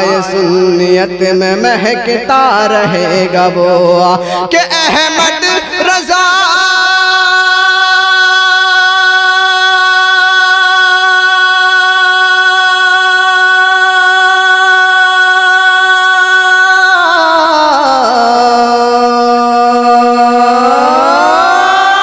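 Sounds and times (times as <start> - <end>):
person singing long held notes: 0.0 - 22.0.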